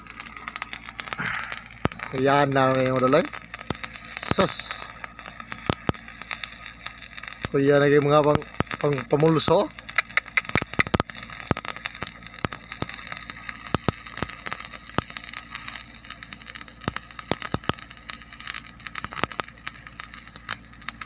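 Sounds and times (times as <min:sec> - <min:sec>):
arc welding hiss and crackle: 0:00.0 - 0:21.0.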